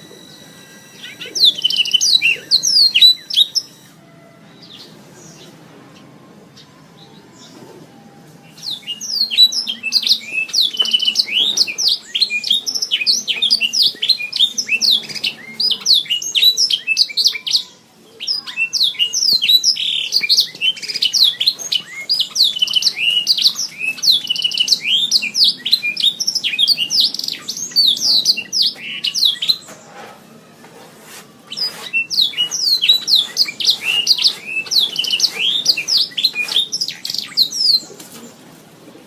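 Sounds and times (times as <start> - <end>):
canary singing: 0.0 - 38.4.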